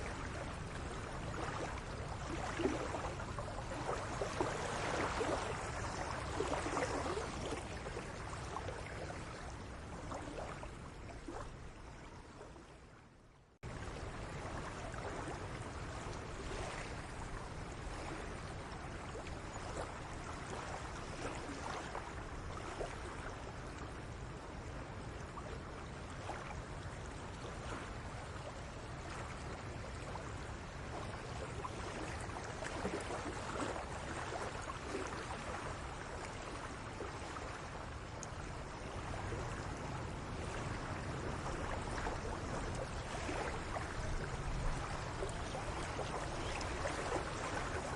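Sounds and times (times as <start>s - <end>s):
flowing water rushing: 0.0s - 13.0s, 13.7s - 47.9s.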